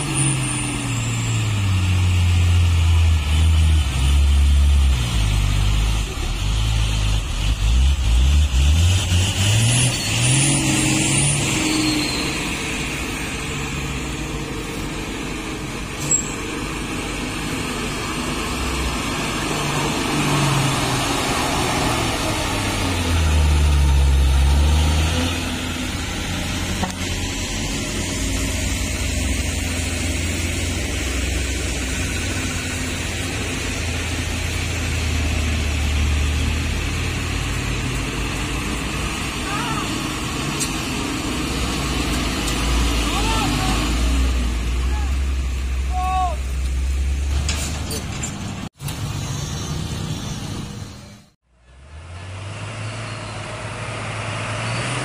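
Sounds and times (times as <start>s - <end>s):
diesel engines revving: 0.0s - 55.0s.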